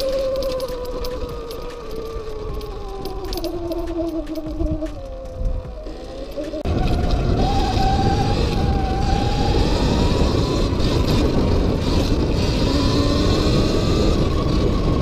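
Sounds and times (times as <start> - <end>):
electric motor whine: 0.0 - 15.0
tyre noise on dirt: 0.0 - 15.0
wind rushing on microphone: 0.0 - 15.0.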